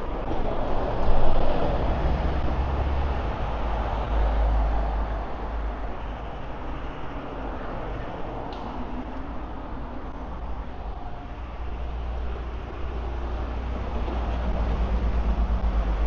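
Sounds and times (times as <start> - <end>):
street noise: 0.0 - 16.0
vehicle passing with engine rumble: 0.0 - 16.0.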